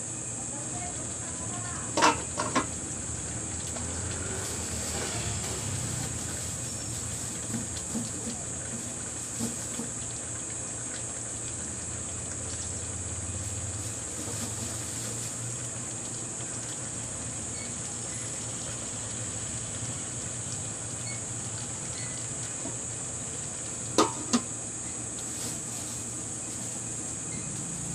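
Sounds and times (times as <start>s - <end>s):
liquid simmering in a pan: 0.0s - 27.9s.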